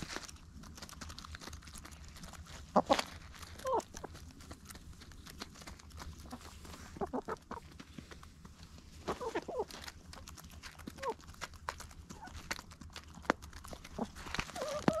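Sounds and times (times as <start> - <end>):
hens' beaks tapping and rustling: 0.0 - 15.0
hens clucking: 2.6 - 15.0.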